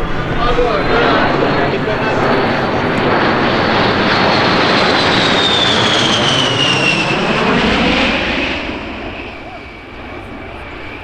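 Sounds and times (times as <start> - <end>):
airplane engine passing by: 0.0 - 11.0.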